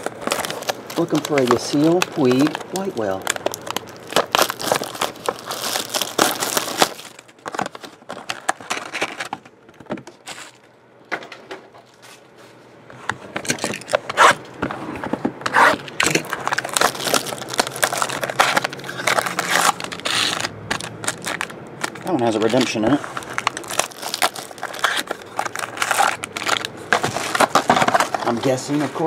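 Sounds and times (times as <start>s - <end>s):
plastic wrap tearing and crinkling: 0.0s - 9.3s, 10.2s - 10.7s, 15.5s - 29.0s.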